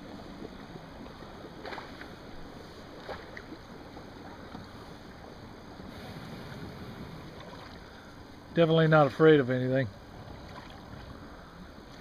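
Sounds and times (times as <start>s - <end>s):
water lapping against kayak hull: 0.0s - 12.0s.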